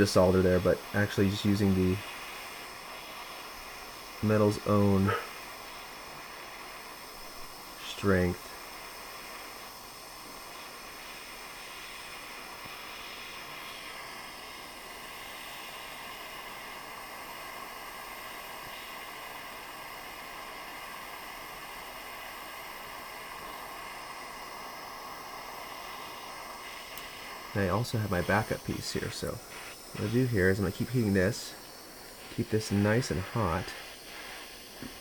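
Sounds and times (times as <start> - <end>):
torch flame hissing: 0.0 - 35.0.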